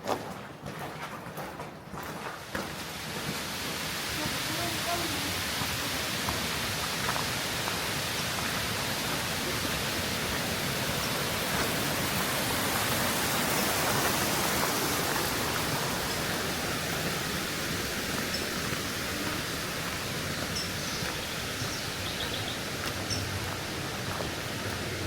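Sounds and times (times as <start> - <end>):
waterfall roaring: 2.5 - 25.0.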